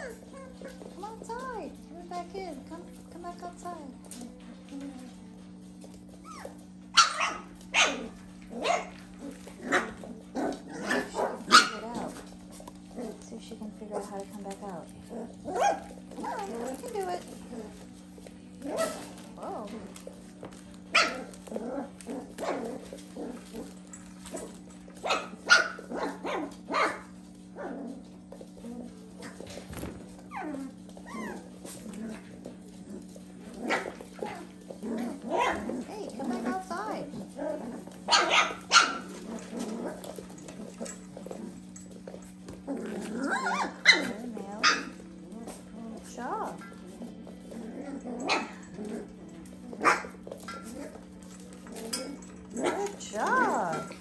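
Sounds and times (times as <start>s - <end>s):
puppies yapping: 0.0s - 1.0s, 6.0s - 13.3s, 15.0s - 54.0s.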